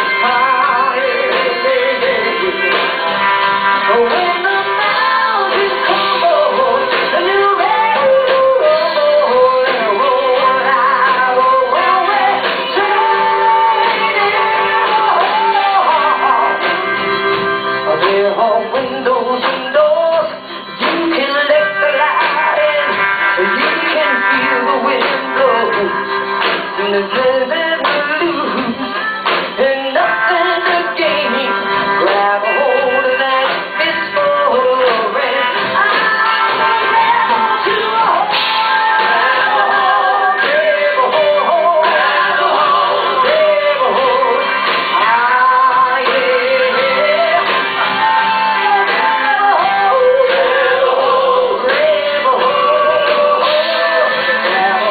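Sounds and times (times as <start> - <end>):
woman singing: 0.0 - 3.1, 3.7 - 54.9
live rock band: 0.0 - 54.9.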